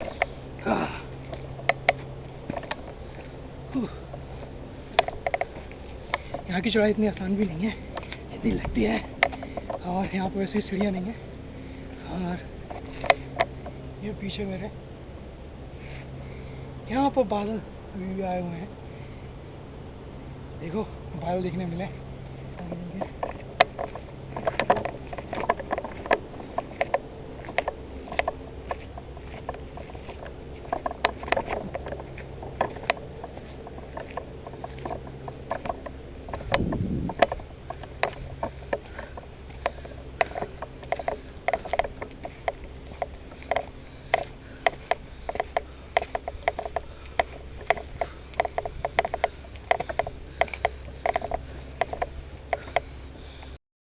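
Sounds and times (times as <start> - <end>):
footsteps crunching on trail: 0.0 - 53.6
low steady hum: 0.0 - 53.6.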